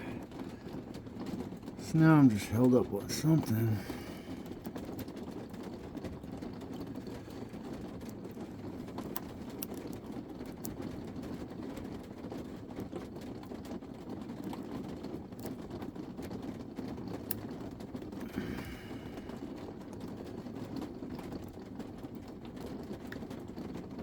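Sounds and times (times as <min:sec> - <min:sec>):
low background rumble: 0:00.0 - 0:12.9, 0:16.8 - 0:24.0.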